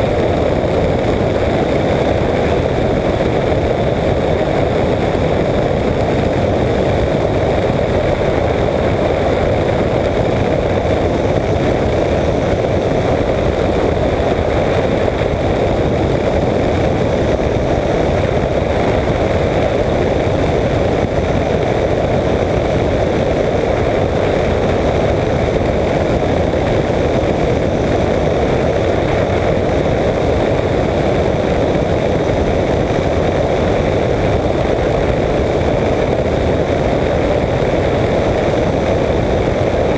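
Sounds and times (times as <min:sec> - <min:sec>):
aircraft engine and propeller drone: 0:00.0 - 0:39.9
wind rush: 0:00.0 - 0:39.9.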